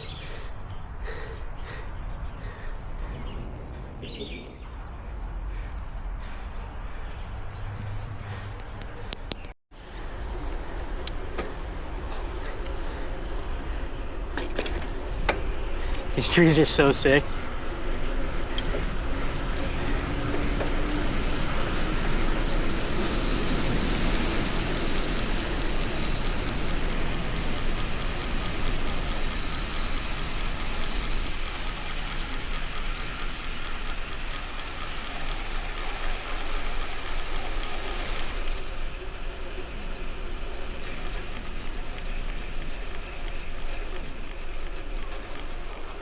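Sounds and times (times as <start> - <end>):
bicycle tyres rolling on road: 6.3 - 46.0.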